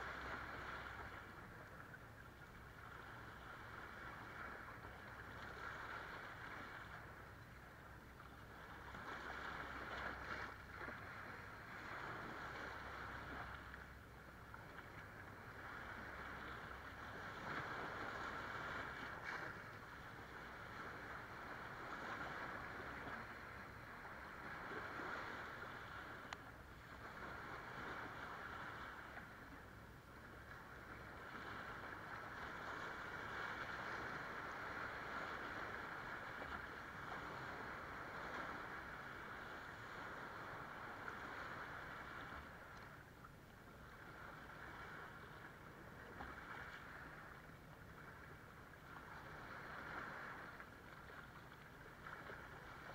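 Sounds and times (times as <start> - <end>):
waves washing over rocks and sand: 0.0 - 52.9.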